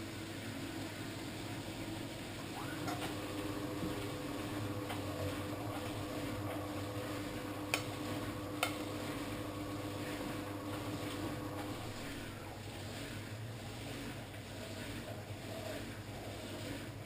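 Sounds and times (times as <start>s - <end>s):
washing machine motor hum: 0.0s - 17.0s
water churning: 2.1s - 17.0s.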